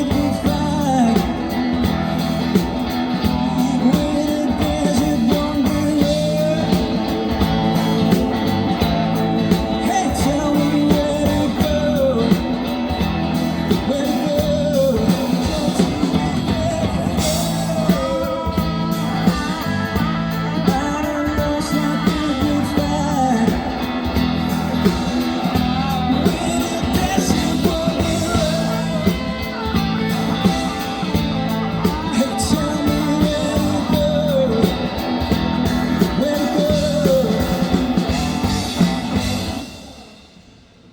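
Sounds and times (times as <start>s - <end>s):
person singing: 0.0s - 39.8s
electric guitar: 0.0s - 40.9s
rock band playing live: 0.0s - 40.9s.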